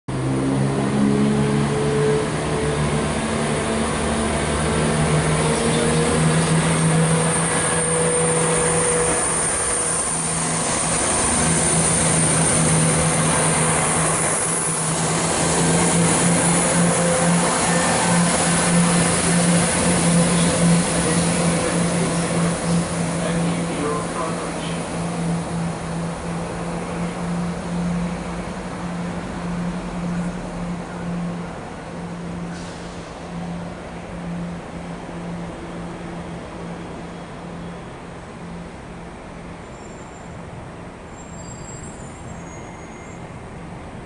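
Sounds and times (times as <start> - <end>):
higher engine tone rising: 0.1 - 37.0
low diesel engine hum: 0.1 - 41.0
diesel train passing: 0.1 - 44.0.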